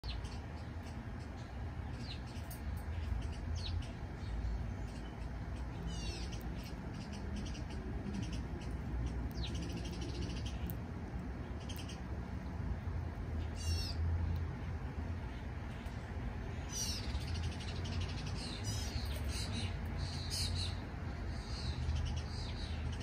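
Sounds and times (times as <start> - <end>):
songbirds calling: 0.0 - 23.0.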